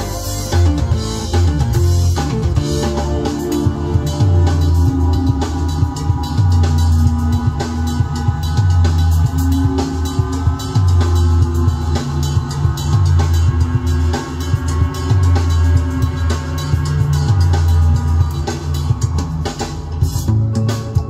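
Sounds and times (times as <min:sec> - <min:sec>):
music with drums and bass: 0:00.0 - 0:21.0.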